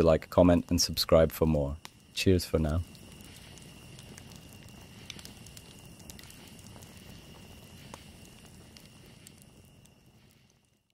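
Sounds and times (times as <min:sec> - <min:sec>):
campfire pops: 0:00.0 - 0:10.9.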